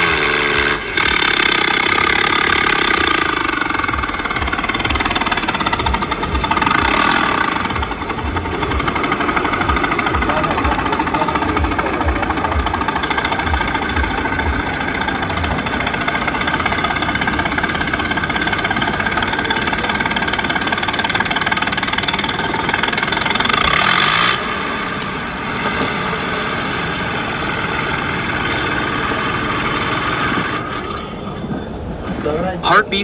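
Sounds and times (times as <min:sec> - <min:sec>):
heavy vehicle engine running: 0:00.0 - 0:33.0.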